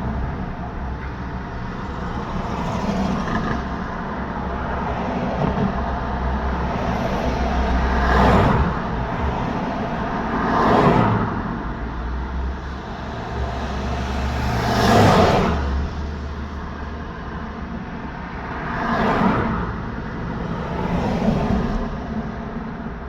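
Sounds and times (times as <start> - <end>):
road traffic rumble: 0.0 - 23.0
vehicles passing by: 0.0 - 23.0.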